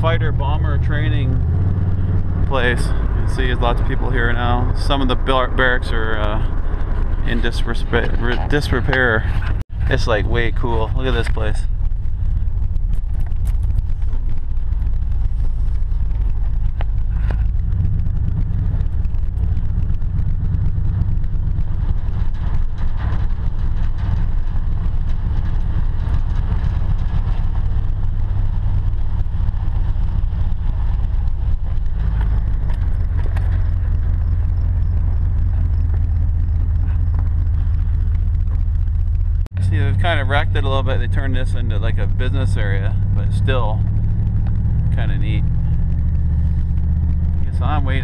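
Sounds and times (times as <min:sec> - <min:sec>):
truck engine rumble: 0:00.0 - 0:48.0
tyres on gravel road: 0:00.0 - 0:48.0.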